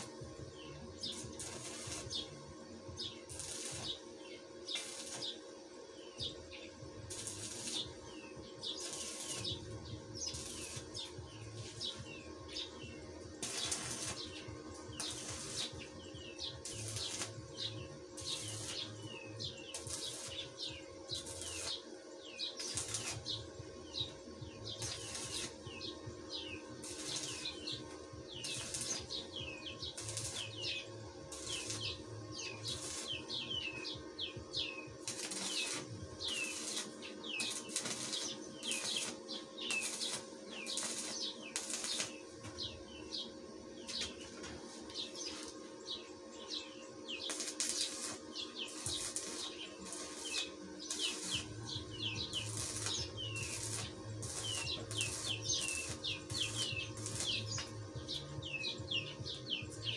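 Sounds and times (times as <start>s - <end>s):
arc welder crackling: 0.0s - 59.9s
low hum: 0.0s - 59.9s.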